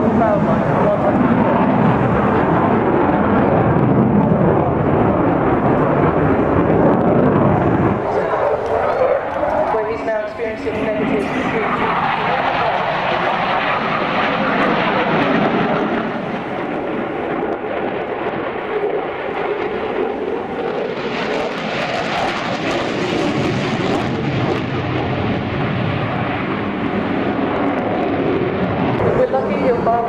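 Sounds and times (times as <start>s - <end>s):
jet engines flying past: 0.0s - 30.0s.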